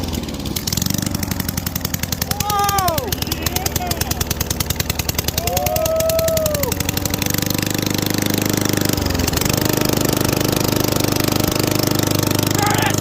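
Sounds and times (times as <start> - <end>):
lawn mower engine popping exhaust: 0.0 - 13.0.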